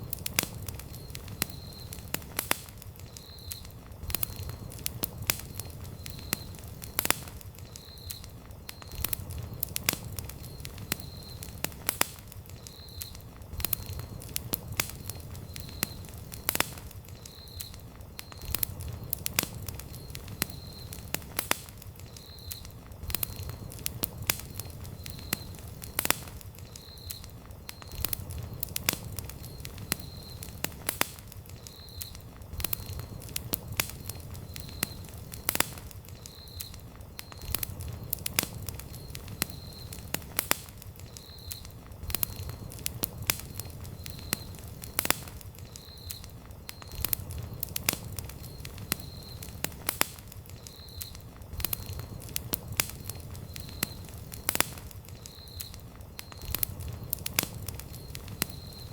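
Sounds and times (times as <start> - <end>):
campfire crackling and popping: 0.0 - 58.9
low rumble of burning wood: 0.0 - 58.9.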